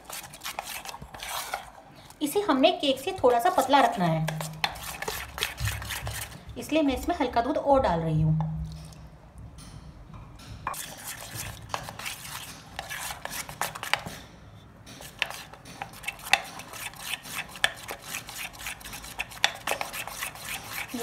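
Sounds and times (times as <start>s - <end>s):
metal spoon stirring in steel bowl: 0.0s - 7.0s, 10.7s - 21.0s.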